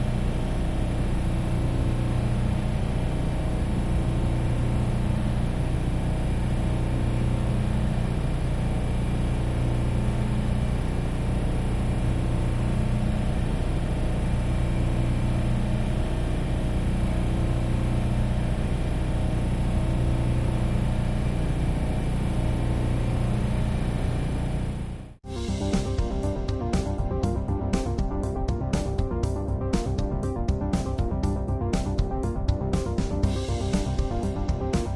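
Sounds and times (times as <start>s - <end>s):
air compressor running: 0.0s - 34.9s.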